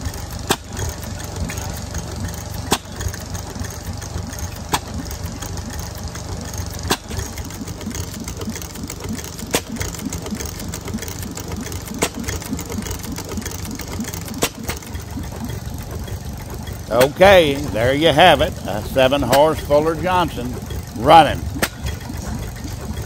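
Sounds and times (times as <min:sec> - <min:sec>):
antique gas engine running: 0:00.0 - 0:23.0.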